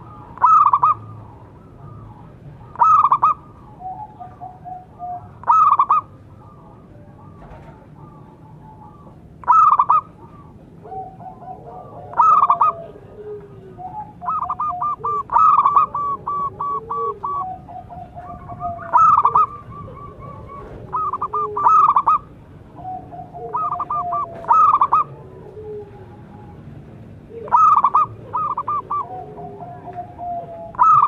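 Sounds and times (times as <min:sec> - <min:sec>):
doves cooing staccato: 0:00.0 - 0:31.0
low faint cooing: 0:00.0 - 0:31.0.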